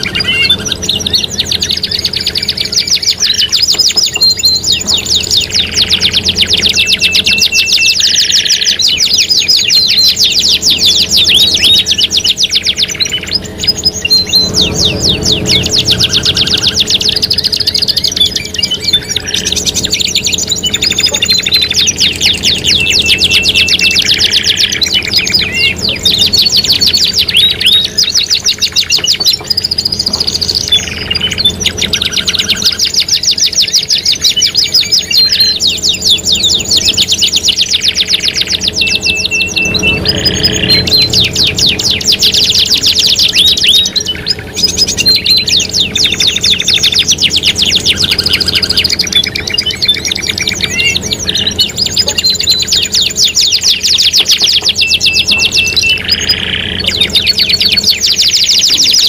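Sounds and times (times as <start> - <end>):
caged songbirds chirping: 0.0 - 59.0
canaries singing trills: 0.0 - 59.0.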